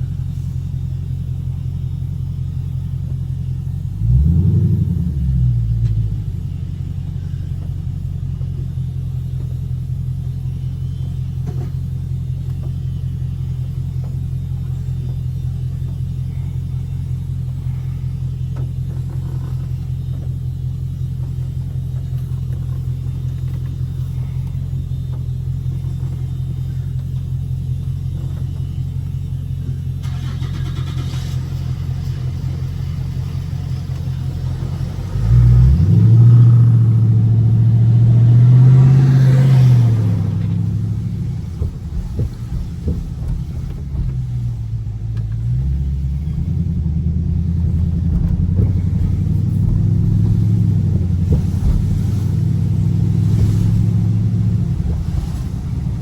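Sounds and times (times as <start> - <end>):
car engine idling low drone: 0.0 - 56.0.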